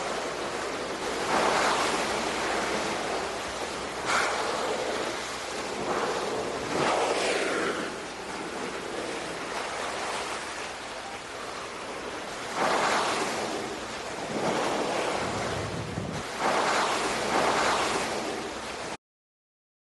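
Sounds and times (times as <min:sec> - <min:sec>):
sea water washing in surges: 0:00.0 - 0:19.0
steady wind: 0:00.0 - 0:19.0.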